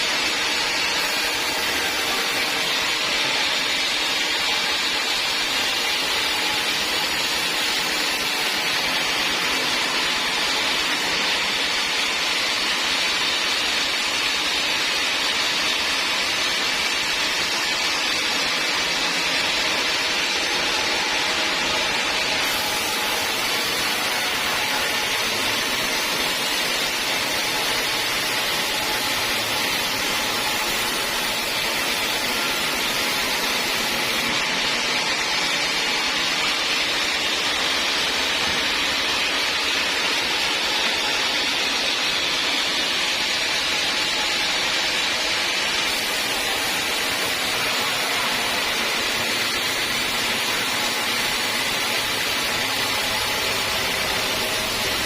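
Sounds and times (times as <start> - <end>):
sawmill saw cutting wood: 0.0 - 55.0.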